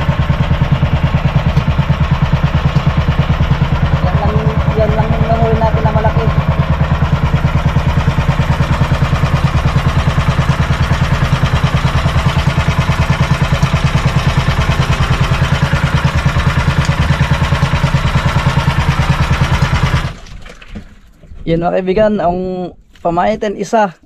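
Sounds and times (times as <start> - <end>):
boat engine running: 0.0 - 22.8.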